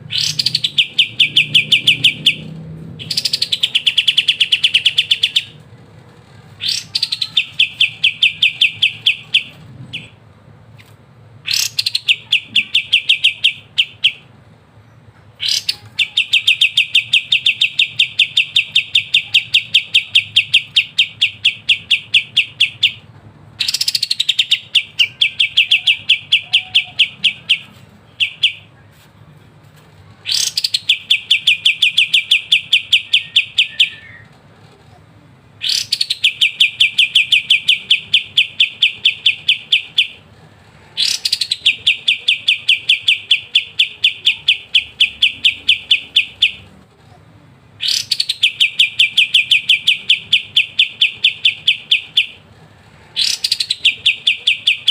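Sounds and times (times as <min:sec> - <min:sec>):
bulbul singing rolling trill: 0:00.0 - 0:05.6, 0:06.6 - 0:10.2, 0:11.4 - 0:28.7, 0:30.2 - 0:34.2, 0:35.6 - 0:40.3, 0:41.0 - 0:46.7, 0:47.8 - 0:52.5, 0:53.1 - 0:54.9.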